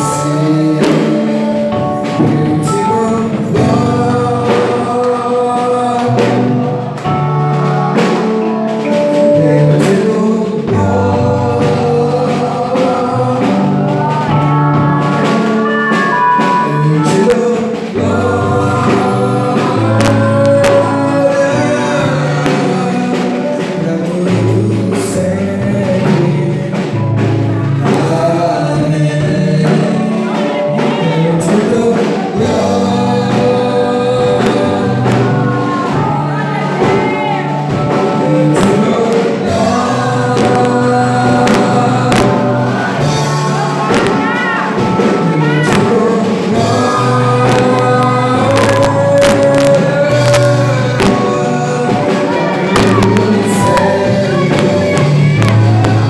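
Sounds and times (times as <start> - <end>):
gospel singing: 0.0 - 56.0
instrumental accompaniment with beat: 0.0 - 56.0.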